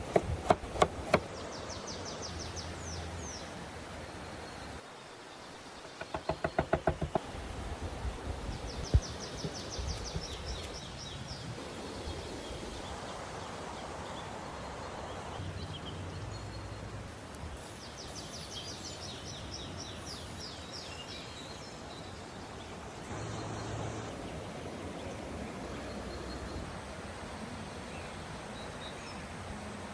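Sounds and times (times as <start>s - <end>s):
steady background hiss: 0.0s - 29.9s.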